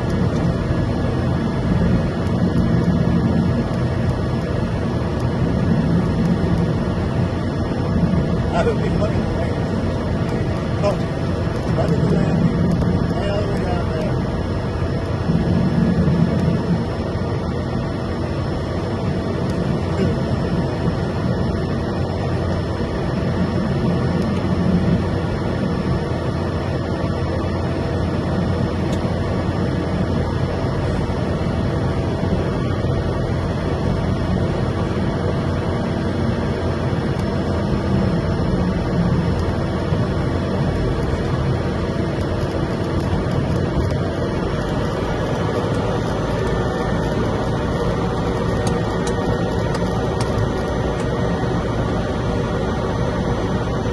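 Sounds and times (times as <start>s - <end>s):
turboprop engine droning: 0.0s - 53.9s.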